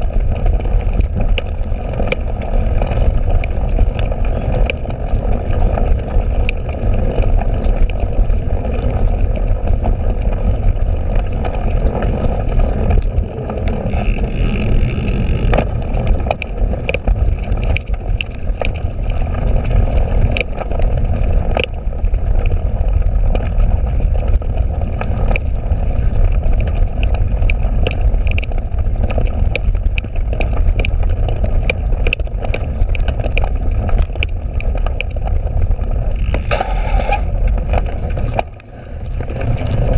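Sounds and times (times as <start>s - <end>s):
bike rattling over bumps: 0.0s - 39.9s
wind and ground rumble: 0.0s - 39.9s.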